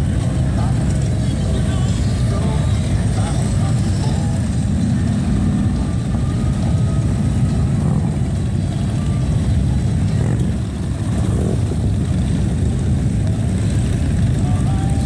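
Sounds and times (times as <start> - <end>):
motorcycle engines riding past: 0.0 - 15.0.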